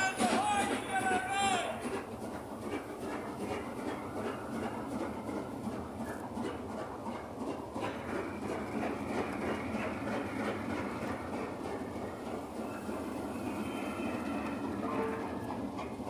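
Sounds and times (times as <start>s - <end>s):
clickety-clack over rail joints: 0.0s - 16.0s
train wheels rumbling on rails: 0.0s - 16.0s.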